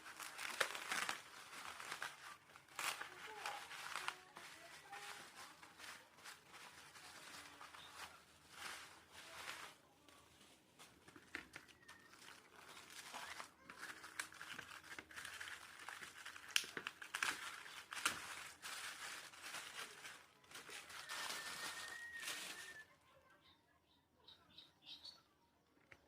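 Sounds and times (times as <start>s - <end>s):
rustling and crinkling: 0.0s - 23.1s.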